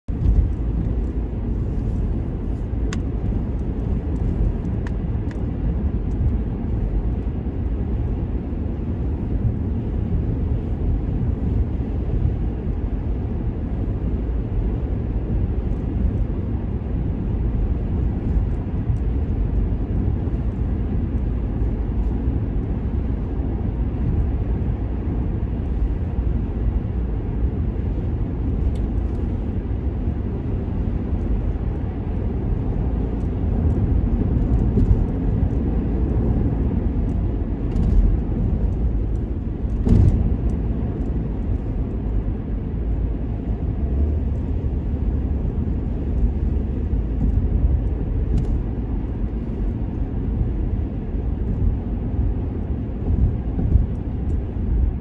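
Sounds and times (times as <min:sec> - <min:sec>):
road rumble inside car: 0:00.0 - 0:55.0.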